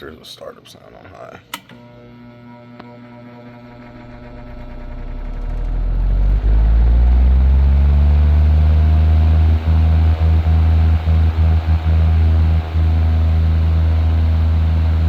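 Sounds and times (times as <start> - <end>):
electric fan running: 1.2 - 15.0.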